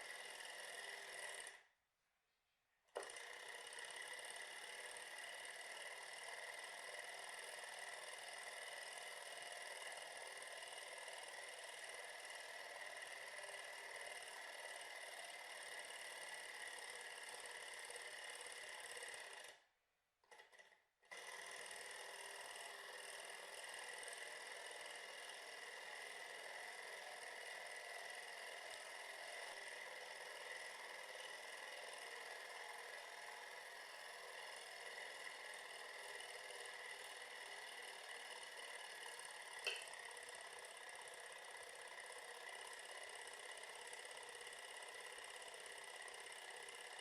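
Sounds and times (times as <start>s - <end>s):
small engine mechanical whir: 0.0s - 1.7s, 2.9s - 47.0s.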